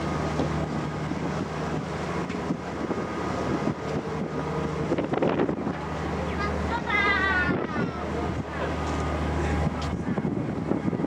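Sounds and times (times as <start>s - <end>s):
low ship engine drone: 0.0s - 11.0s
rushing water wash: 0.0s - 11.0s
wind noise: 0.6s - 5.9s, 7.3s - 11.0s.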